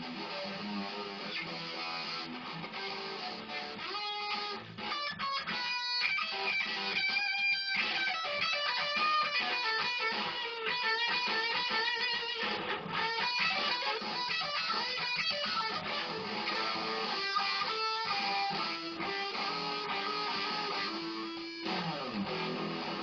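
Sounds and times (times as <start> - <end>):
blues rock electric guitar: 0.0 - 23.0.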